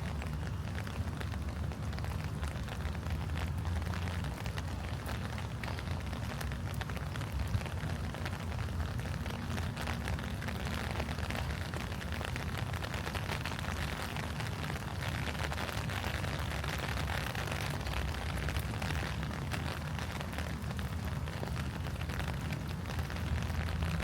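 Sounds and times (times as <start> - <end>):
rain pattering on leaves: 0.0 - 24.0.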